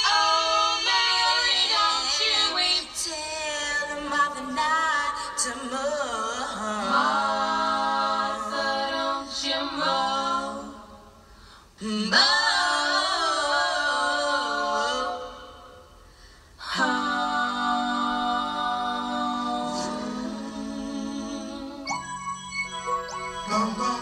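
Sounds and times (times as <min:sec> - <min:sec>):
voices singing in harmony: 0:00.0 - 0:11.2, 0:11.8 - 0:16.0, 0:16.6 - 0:24.0.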